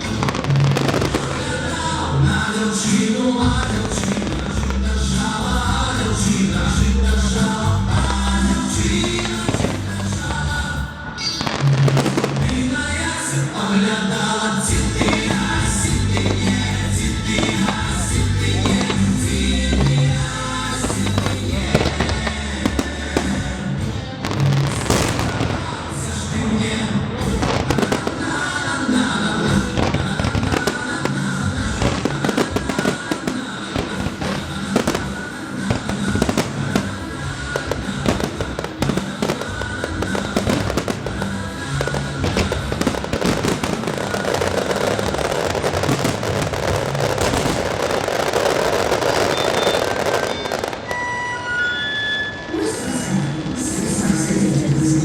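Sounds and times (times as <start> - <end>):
fireworks bursting and crackling: 0.0 - 55.0
music: 0.0 - 55.0.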